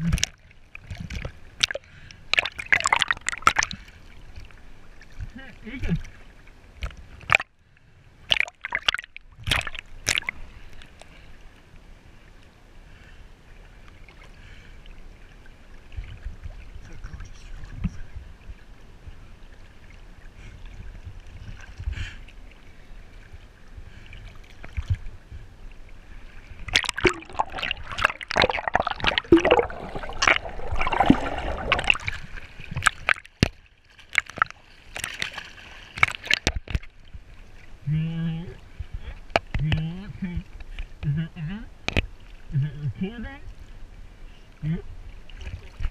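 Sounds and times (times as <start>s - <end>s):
water lapping: 0.0s - 45.9s
water splashing and sloshing: 0.0s - 45.9s.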